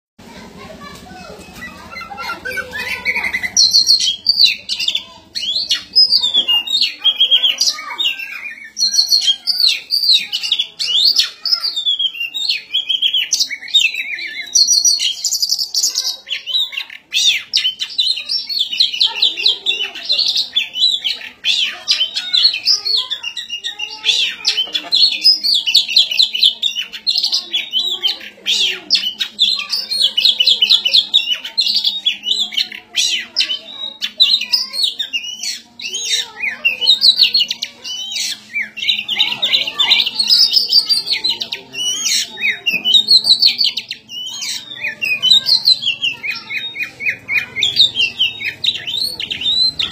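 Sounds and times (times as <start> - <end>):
magpie-robin singing: 0.2 - 49.9.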